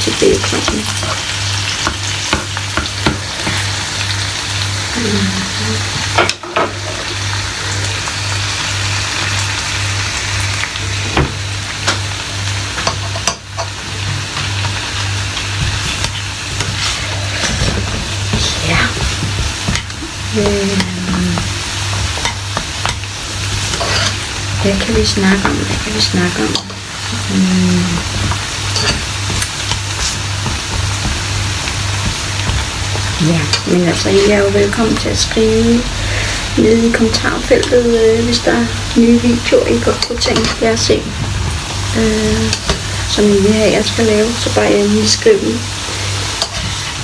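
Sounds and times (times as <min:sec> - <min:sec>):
bacon sizzling in a frying pan: 0:00.0 - 0:47.0.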